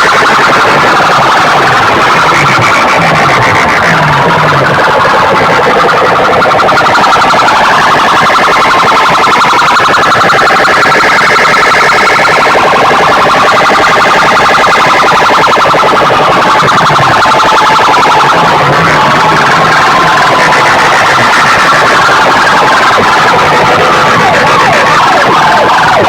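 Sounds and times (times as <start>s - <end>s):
distorted electronic siren wail: 0.0s - 26.0s.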